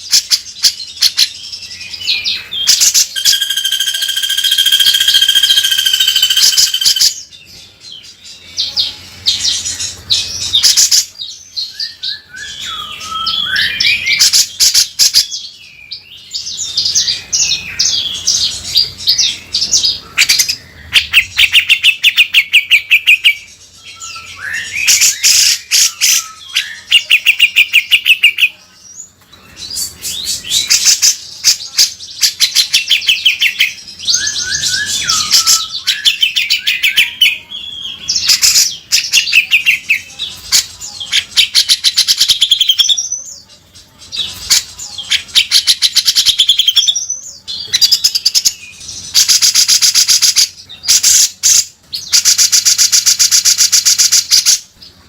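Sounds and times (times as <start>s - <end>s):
bulbul singing rasping phrases: 0.0s - 55.0s.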